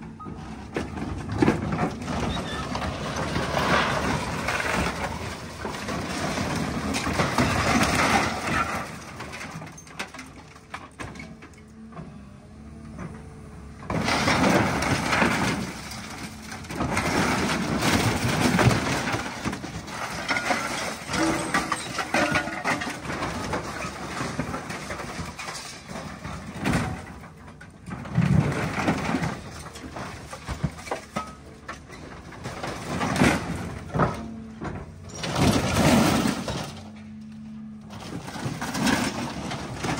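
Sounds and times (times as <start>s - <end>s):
excavator engine: 0.0s - 39.9s.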